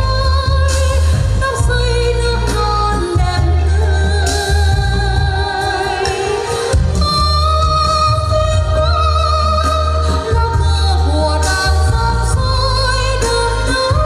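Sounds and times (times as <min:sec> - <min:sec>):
band accompaniment with bass line: 0:00.0 - 0:14.0
person singing with vibrato: 0:00.0 - 0:14.0.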